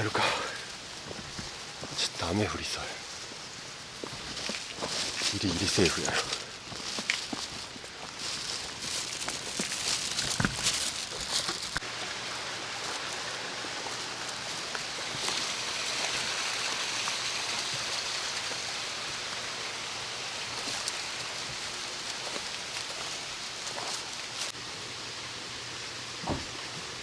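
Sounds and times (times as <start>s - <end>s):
stream flowing: 3.3s - 27.0s.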